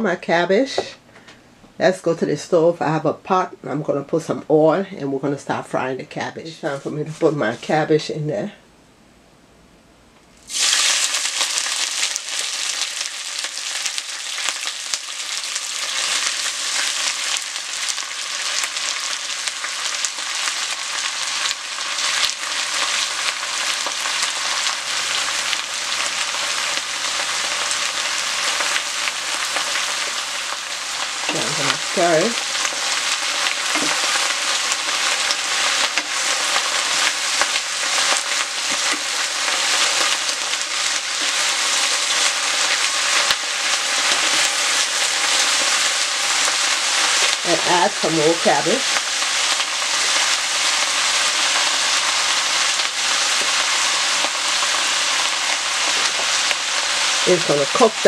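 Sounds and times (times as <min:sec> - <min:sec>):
cabbage sizzling in hot oil: 0:10.4 - 0:58.0.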